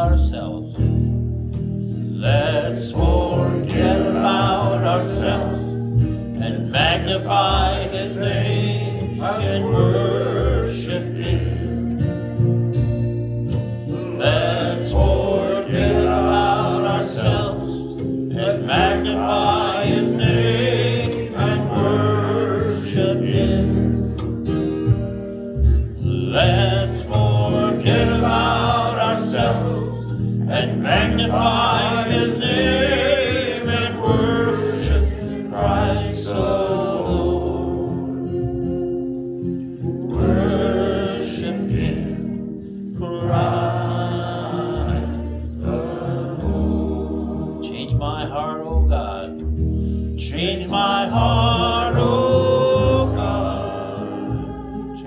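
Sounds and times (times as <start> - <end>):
guitar chords: 0.0 - 55.0
voices singing worship song: 0.0 - 55.0.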